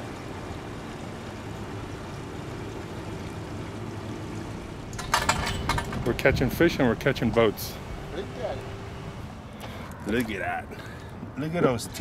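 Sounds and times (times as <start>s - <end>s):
low rumble with hiss: 0.0s - 12.0s.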